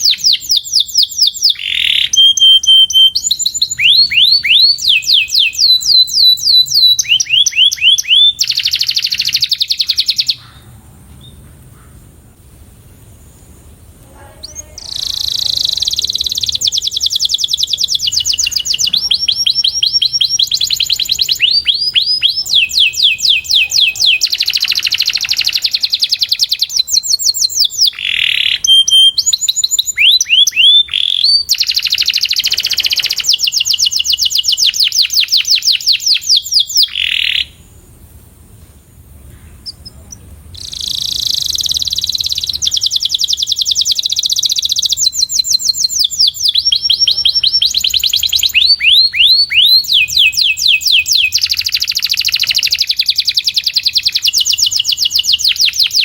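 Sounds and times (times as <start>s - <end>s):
canary singing trills: 0.0s - 12.0s, 14.0s - 37.7s, 39.2s - 56.0s.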